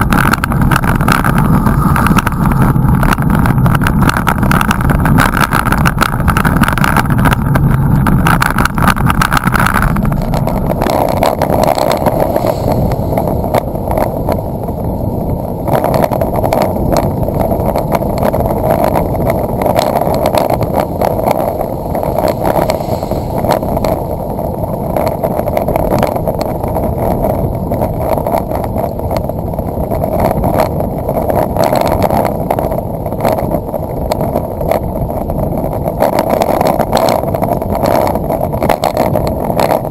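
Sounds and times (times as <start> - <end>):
tyre noise on wet road: 0.0 - 39.9
wind buffeting microphone: 0.0 - 39.9.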